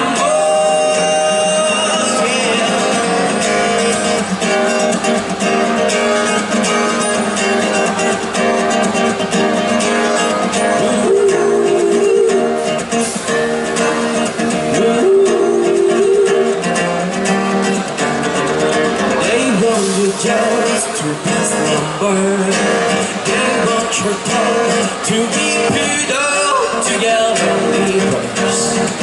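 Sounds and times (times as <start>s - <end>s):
acoustic band playing: 0.0s - 29.0s.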